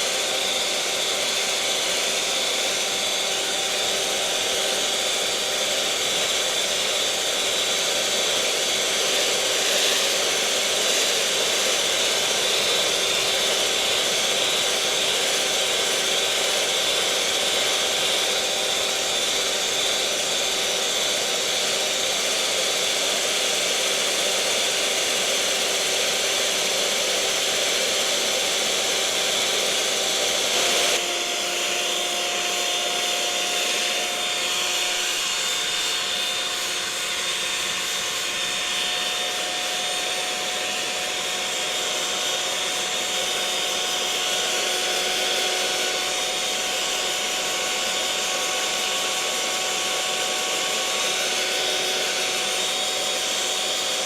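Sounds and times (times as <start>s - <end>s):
electric mixer motor whirring: 0.0s - 54.0s.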